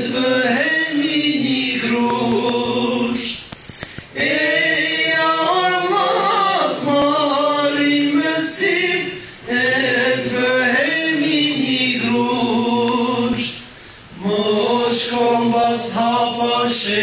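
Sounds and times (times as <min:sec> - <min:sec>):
voices singing together: 0:00.0 - 0:17.0.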